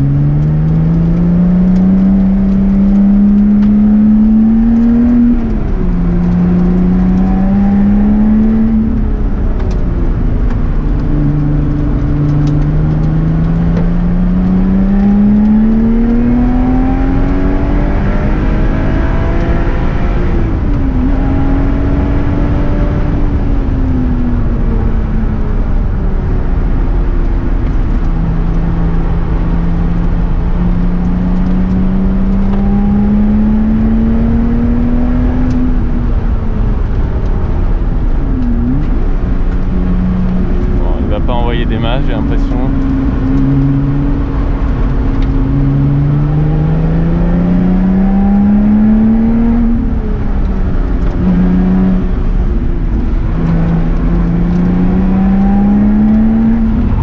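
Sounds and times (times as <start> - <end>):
car engine revving through gears: 0.0 - 57.0
road and tyre noise: 0.0 - 57.0.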